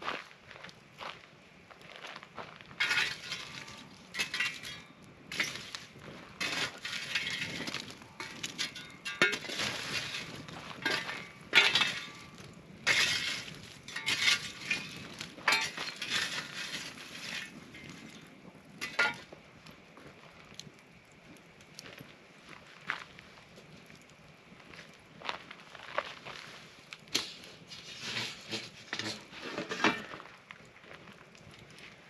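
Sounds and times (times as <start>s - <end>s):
embers clinking on stone: 2.7s - 23.0s, 26.4s - 32.0s
tool raking burning coals: 2.7s - 32.0s.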